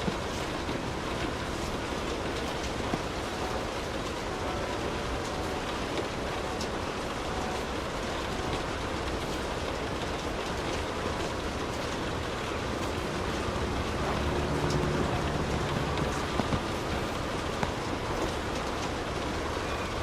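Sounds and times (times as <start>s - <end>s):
rain pattering on car roof: 0.0s - 20.0s.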